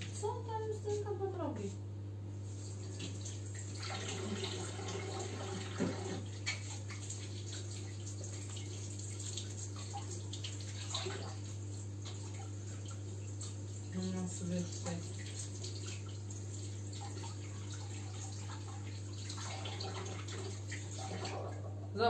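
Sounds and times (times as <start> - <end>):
water running from a tap: 2.5 - 21.7.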